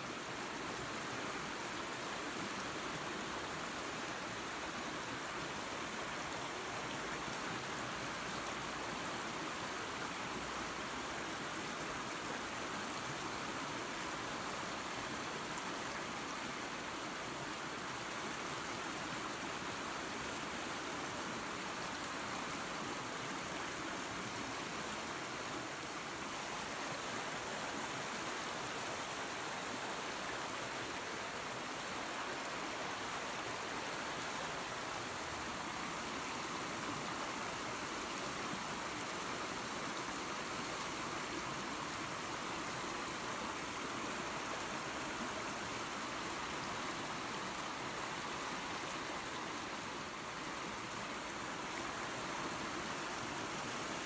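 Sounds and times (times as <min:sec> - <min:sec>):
waterfall and creek running: 0:00.0 - 0:54.0.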